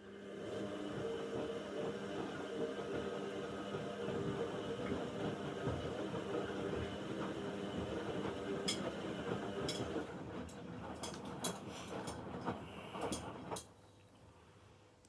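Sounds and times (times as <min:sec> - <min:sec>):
washing machine motor hum: 0:00.0 - 0:13.9.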